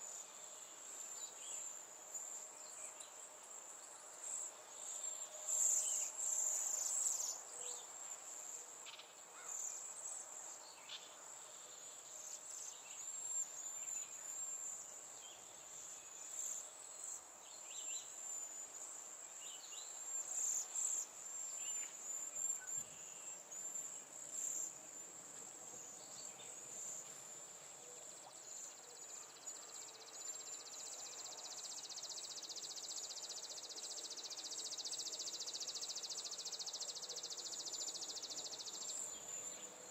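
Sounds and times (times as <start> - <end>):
insects trilling: 3.4 - 39.9.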